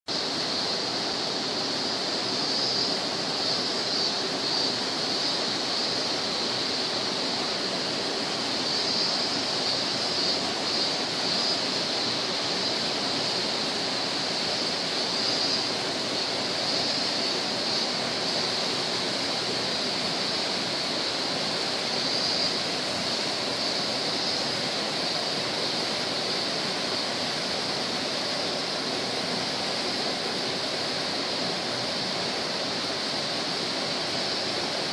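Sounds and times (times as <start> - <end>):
waterfall rushing and splashing: 0.1 - 34.9.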